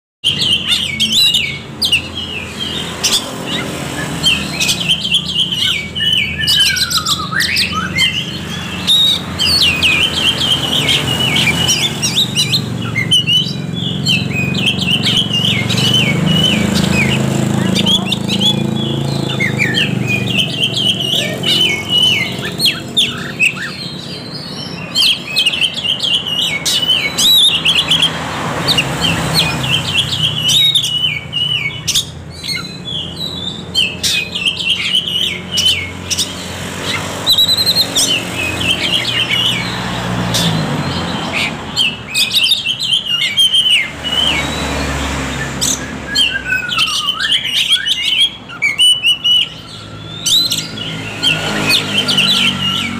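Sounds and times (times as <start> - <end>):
bird singing chirps and trills: 0.2 - 52.9.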